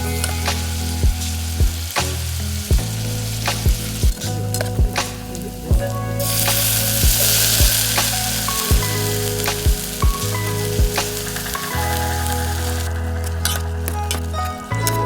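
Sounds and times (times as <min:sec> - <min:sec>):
food sizzling in a pan: 0:00.0 - 0:13.6
background music with steady beat: 0:00.0 - 0:15.0.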